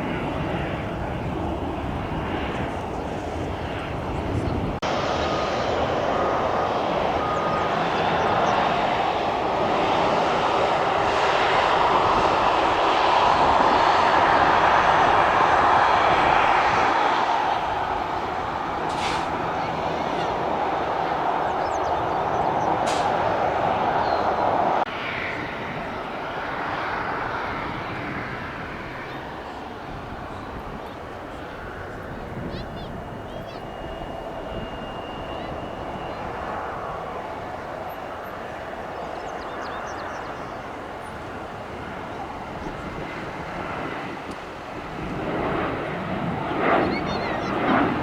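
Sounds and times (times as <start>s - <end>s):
jet airliner engine noise: 0.0s - 48.0s.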